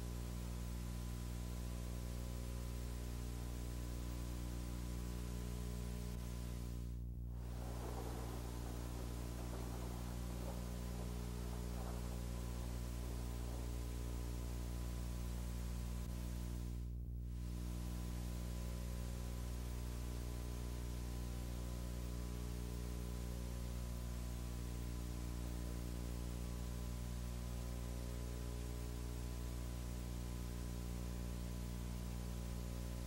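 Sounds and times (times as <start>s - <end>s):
constant hiss: 0.0s - 33.0s
low electrical hum: 0.0s - 33.0s.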